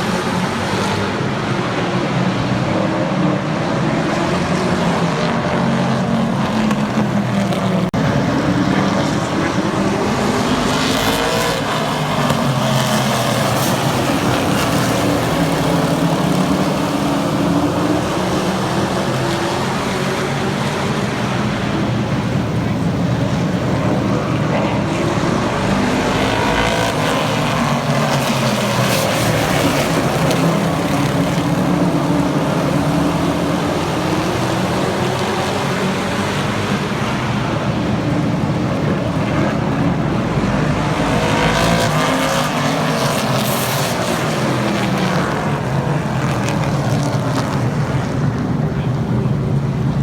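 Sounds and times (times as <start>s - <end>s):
racing truck engines passing: 0.0s - 50.0s.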